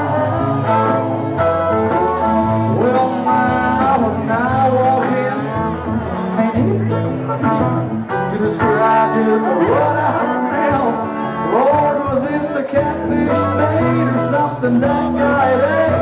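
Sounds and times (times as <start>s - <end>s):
country band playing: 0.0s - 16.0s
man singing: 2.1s - 16.0s.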